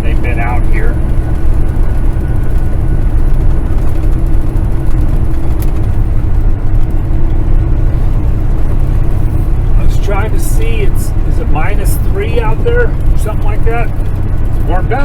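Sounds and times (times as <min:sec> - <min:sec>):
diesel engine and road drone: 0:00.0 - 0:15.0.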